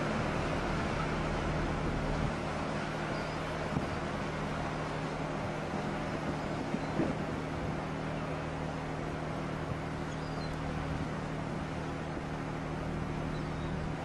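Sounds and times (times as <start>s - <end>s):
ferry engines droning: 0.0s - 14.0s.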